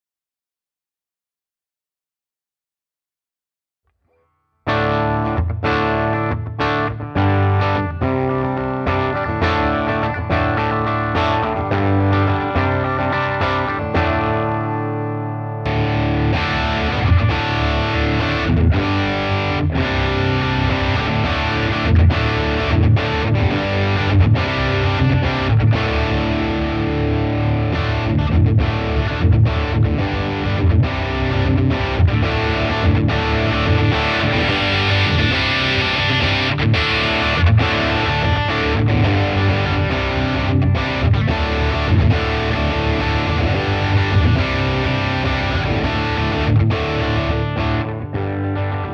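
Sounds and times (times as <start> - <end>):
overdriven electric guitar: 4.0 - 48.9.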